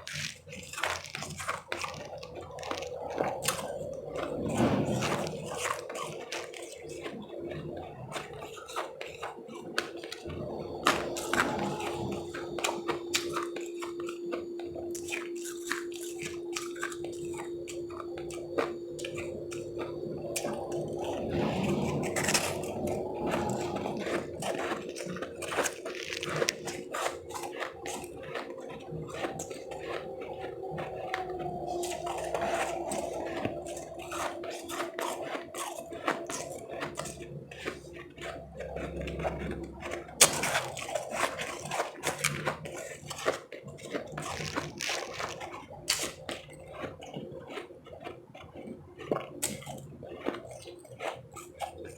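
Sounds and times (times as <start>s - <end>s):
steady hum: 0.0s - 46.5s
chewing crunchy ice: 0.0s - 51.9s.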